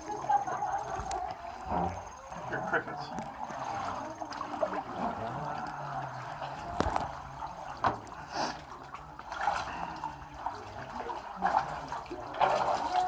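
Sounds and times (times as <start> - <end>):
paddle splashing water: 0.0 - 13.0.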